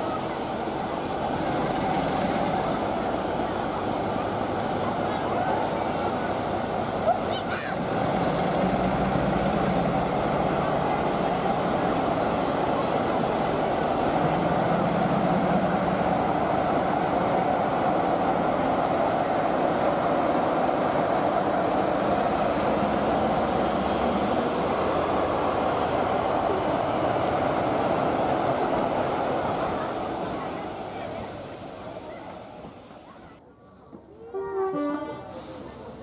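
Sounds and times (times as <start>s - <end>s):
steam hissing: 0.0s - 33.3s
train coaches rolling past: 0.0s - 36.0s.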